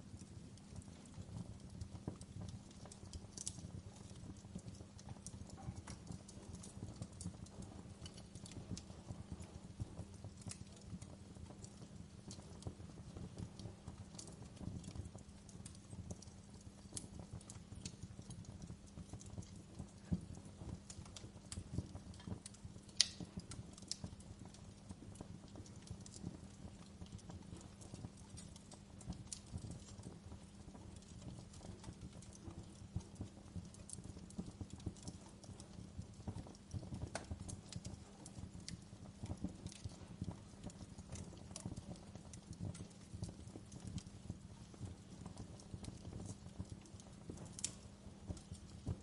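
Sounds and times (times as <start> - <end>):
low rumble of flames: 0.0 - 49.0
wood fire crackling: 0.0 - 49.0.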